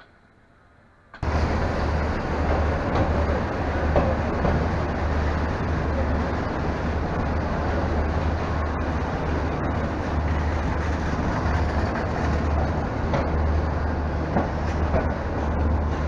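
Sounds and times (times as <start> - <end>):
train coach rumbling along track: 1.2 - 16.0.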